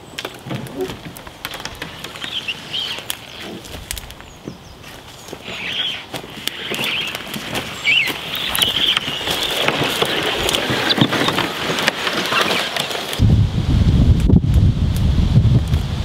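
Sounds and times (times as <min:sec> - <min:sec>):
plants crackling and snapping: 0:00.0 - 0:13.2
canoe dragged through vegetation: 0:00.2 - 0:13.2.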